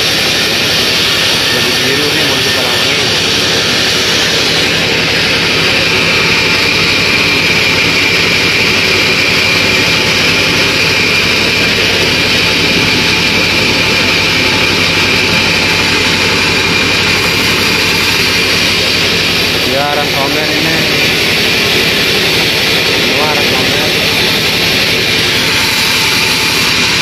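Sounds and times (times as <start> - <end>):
high whine: 0.0 - 27.0
sawmill engine drone: 0.0 - 27.0.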